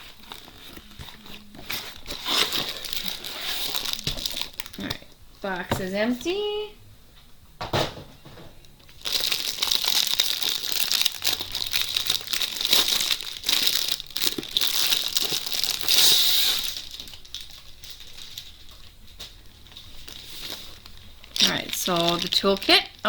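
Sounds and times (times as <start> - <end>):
plastic packaging crinkling: 0.0 - 5.6, 8.8 - 23.0.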